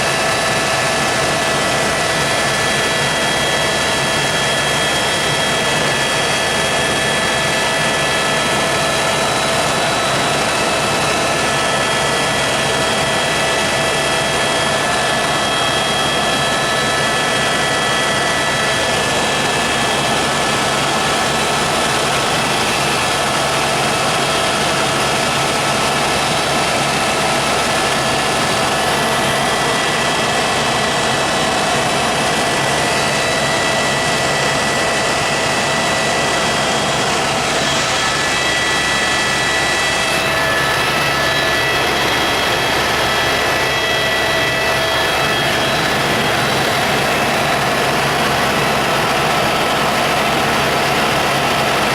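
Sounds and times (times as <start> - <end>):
helicopter engine whine: 0.0 - 51.9
helicopter rotor noise: 0.0 - 51.9.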